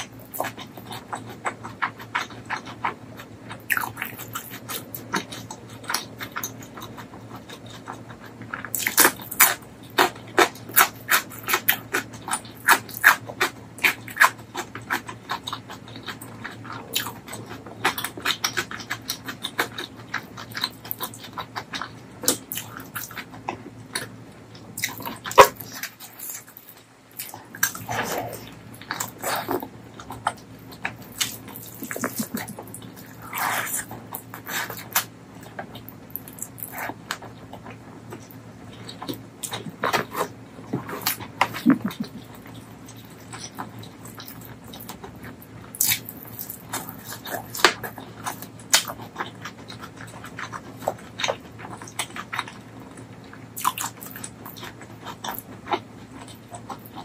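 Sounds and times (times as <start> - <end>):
wet chewing and lip-smacking: 0.0 - 57.0.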